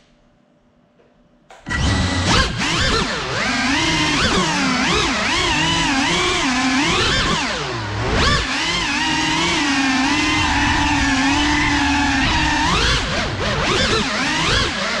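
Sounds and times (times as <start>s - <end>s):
drone electric motors whining: 1.5s - 15.0s.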